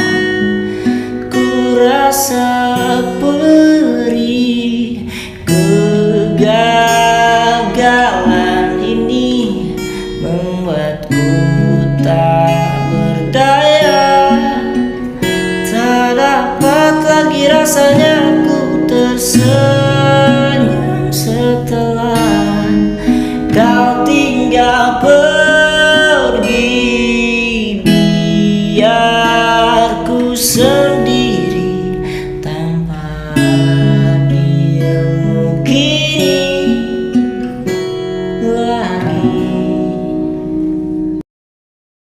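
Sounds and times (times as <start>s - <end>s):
person singing: 0.0s - 40.9s
acoustic guitar strumming and picking: 0.0s - 41.2s.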